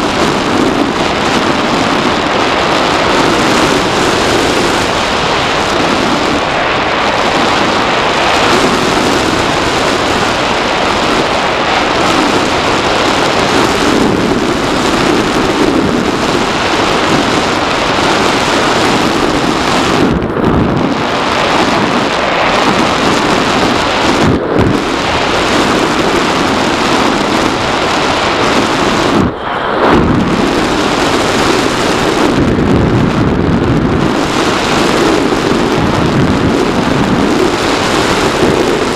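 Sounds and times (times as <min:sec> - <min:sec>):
electric motor and propeller whirring: 0:00.0 - 0:38.9
rush of airflow: 0:00.0 - 0:38.9.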